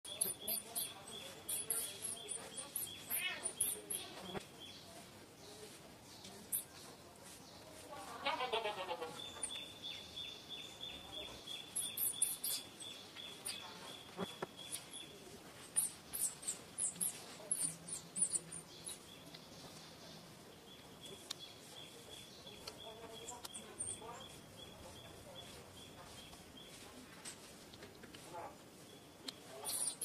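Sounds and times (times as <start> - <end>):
birds chirping: 0.0 - 27.0, 28.2 - 30.0.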